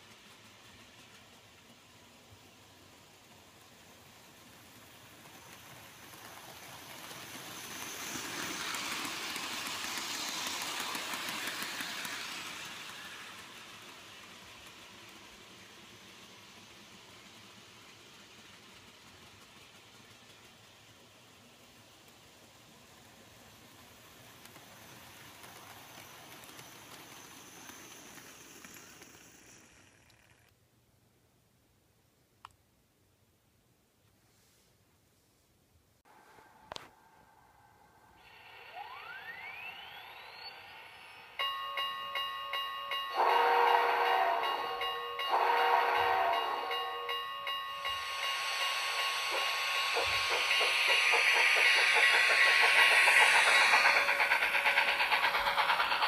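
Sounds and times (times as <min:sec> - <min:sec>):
model train wheels clicking on track: 0:00.0 - 0:30.5, 0:38.1 - 0:56.0.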